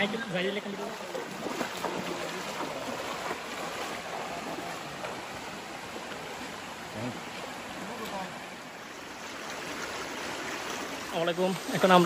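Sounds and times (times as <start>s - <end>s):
stream water rushing: 0.0s - 12.0s
splashes from wading: 0.6s - 12.0s.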